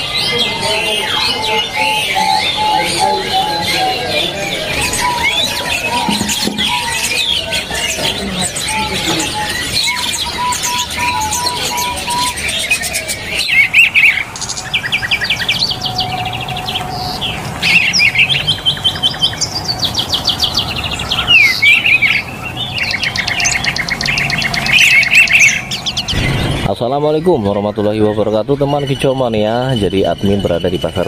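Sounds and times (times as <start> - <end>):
bird piping notes: 0.0 - 31.0
songbirds chirping and trilling: 0.0 - 31.0.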